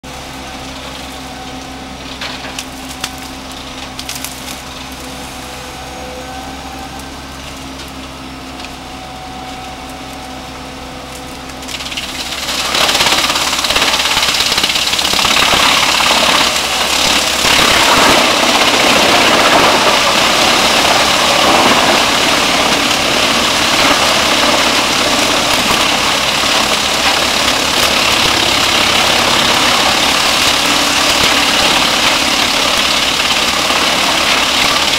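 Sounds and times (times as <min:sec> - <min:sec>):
wood chipper chipping brush: 0:00.0 - 0:34.9
wood chipper running: 0:00.0 - 0:34.9.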